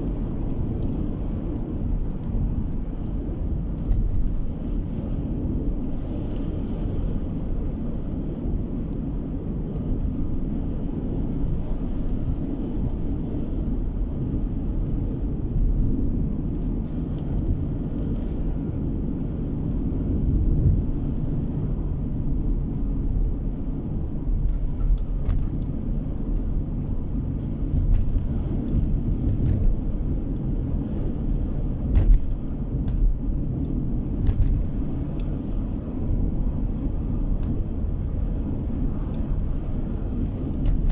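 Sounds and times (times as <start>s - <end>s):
car tyre and engine rumble: 0.0s - 40.9s.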